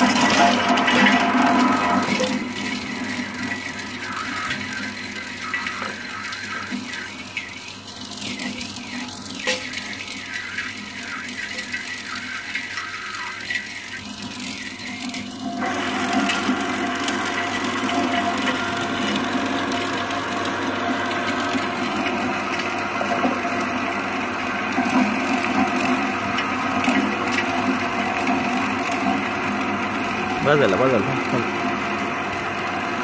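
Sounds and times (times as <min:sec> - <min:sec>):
chopping machine crackling: 0:00.0 - 0:33.0
machine hum: 0:00.0 - 0:33.0.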